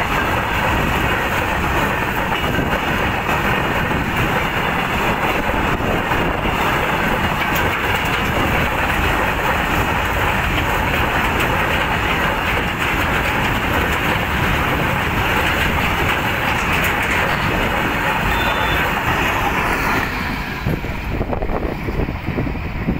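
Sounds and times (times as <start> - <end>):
wheel clicks over rail joints: 0.0 - 20.3
freight train rumbling past: 0.0 - 22.9.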